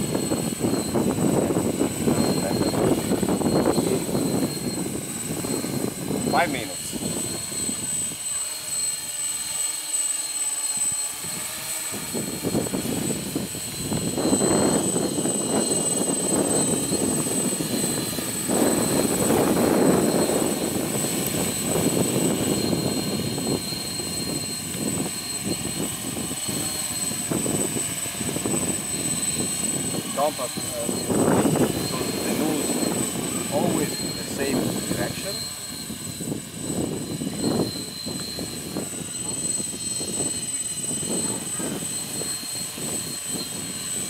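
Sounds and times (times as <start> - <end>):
wind buffeting microphone: 0.0 - 9.6, 10.8 - 44.0
drone motors and propellers: 0.0 - 44.0.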